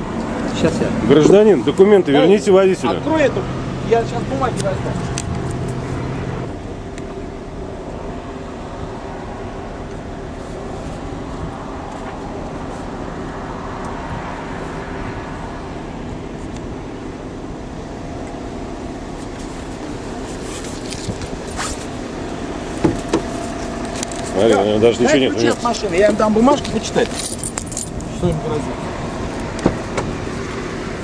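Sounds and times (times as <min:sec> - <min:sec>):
vehicle passing: 0:00.0 - 0:06.6, 0:08.6 - 0:17.3, 0:19.7 - 0:31.0
road traffic noise: 0:00.0 - 0:31.0.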